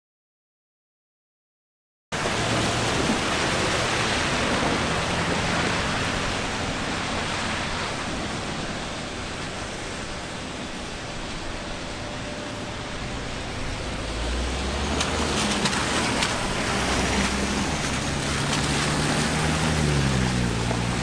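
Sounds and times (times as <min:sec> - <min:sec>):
heavy rain hissing: 0:02.2 - 0:21.0.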